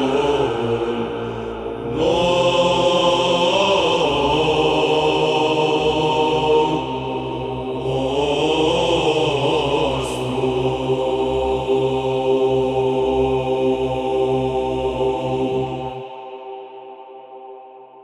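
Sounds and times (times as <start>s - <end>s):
group chanting: 0.0s - 18.0s
held vocal drone: 0.0s - 18.0s.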